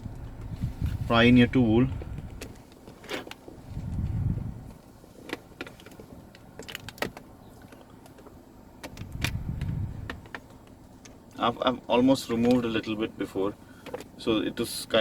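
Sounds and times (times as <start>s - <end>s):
low handling rumble: 0.0s - 15.0s.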